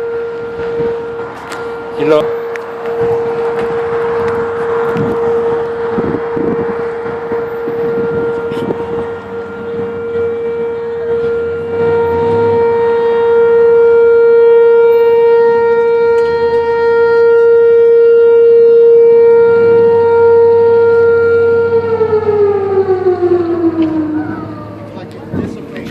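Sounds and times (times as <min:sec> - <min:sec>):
warning siren wailing: 0:00.0 - 0:25.9.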